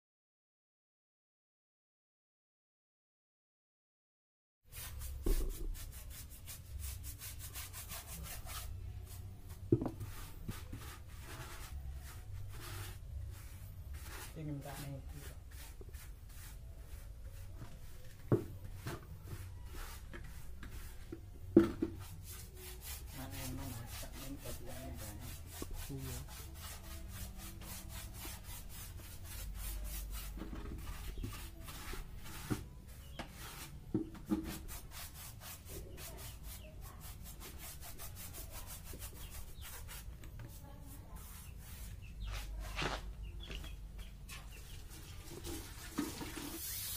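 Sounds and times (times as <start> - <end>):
rubbing on wooden box: 4.8 - 13.4, 14.0 - 43.7.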